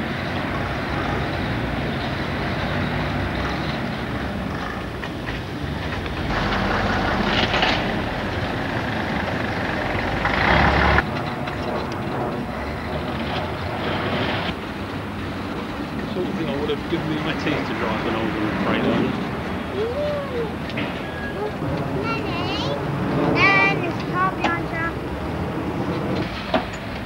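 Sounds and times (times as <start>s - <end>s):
lorry and bus engines running: 0.0s - 27.0s.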